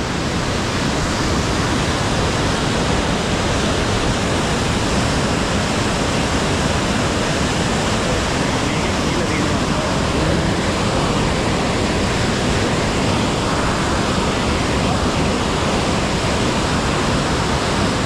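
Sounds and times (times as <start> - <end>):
water roaring over weir: 0.0 - 18.0.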